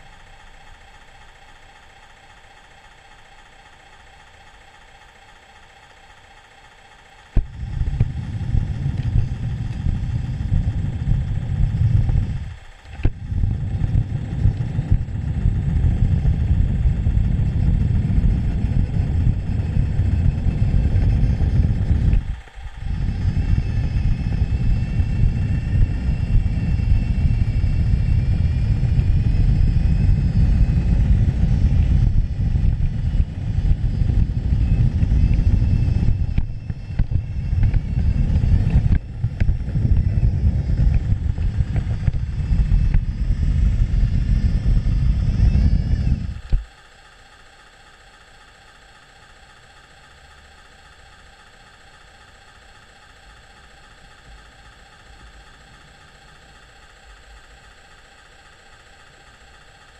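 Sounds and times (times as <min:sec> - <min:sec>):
faint high whine: 0:00.0 - 0:59.9.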